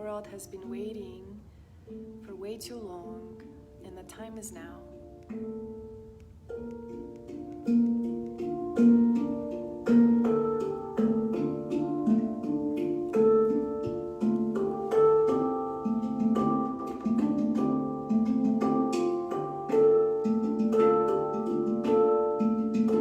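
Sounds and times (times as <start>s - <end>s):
gentle plucked melody: 0.0s - 23.0s.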